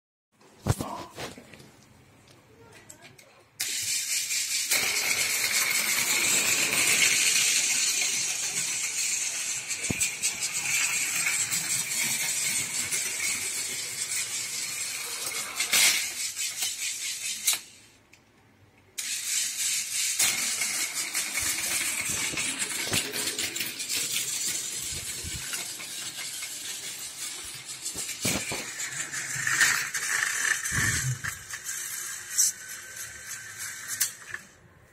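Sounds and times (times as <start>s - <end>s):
toy train motor whirring: 3.6s - 17.9s, 19.0s - 34.6s.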